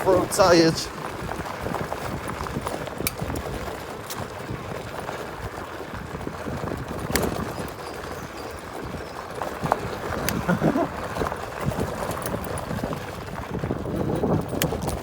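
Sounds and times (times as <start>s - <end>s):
scooter rattling and knocking: 0.0s - 15.0s
scooter tyres rumbling: 0.0s - 15.0s.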